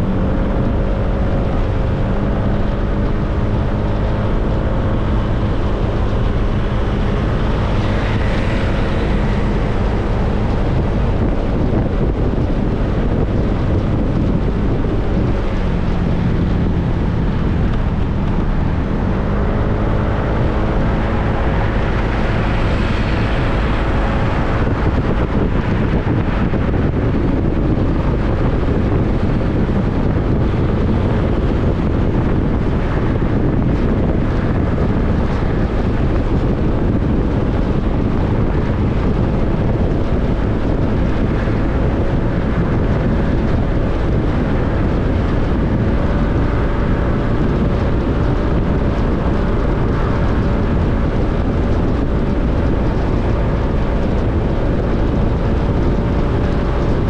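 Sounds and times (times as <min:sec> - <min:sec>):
motorcycle engine running: 0:00.0 - 0:57.0
wind noise on microphone: 0:00.0 - 0:57.0.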